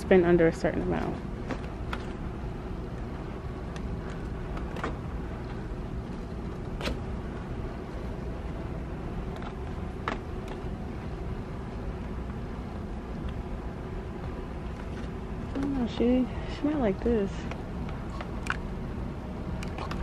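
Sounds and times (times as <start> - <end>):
low store background rumble: 0.0 - 20.0.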